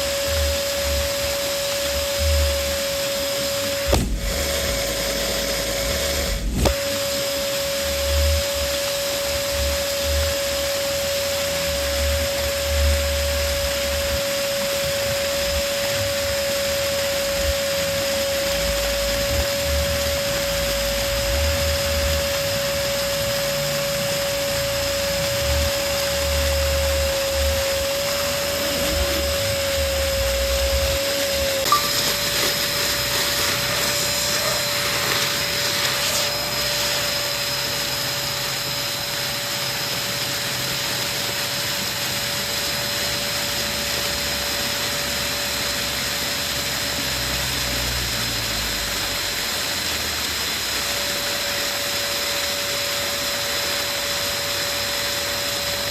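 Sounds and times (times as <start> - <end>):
electric balloon pump humming: 0.0 - 55.9.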